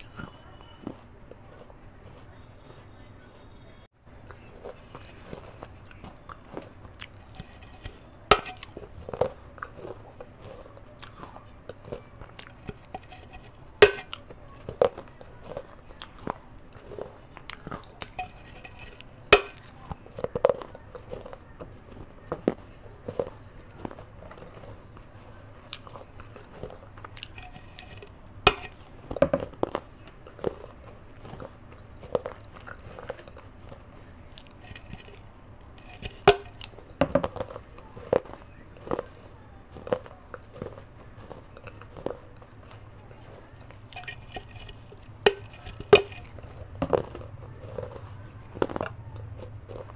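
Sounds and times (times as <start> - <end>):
gritty chewing crunches: 0.0 - 3.5, 4.1 - 49.9.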